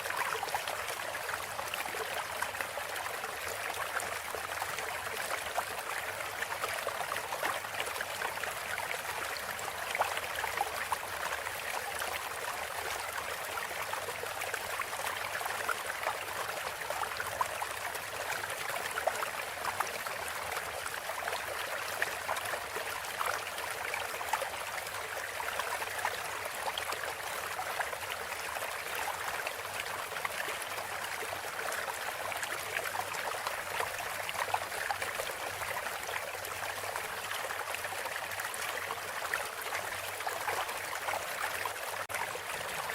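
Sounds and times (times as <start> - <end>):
water trickling and babbling: 0.0 - 42.9.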